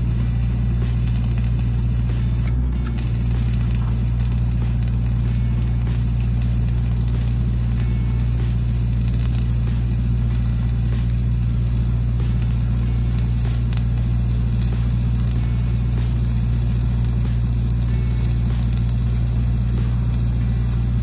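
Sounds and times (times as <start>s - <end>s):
welding arc crackling sizzle: 0.0s - 21.0s
welding machine engine hum: 0.0s - 21.0s.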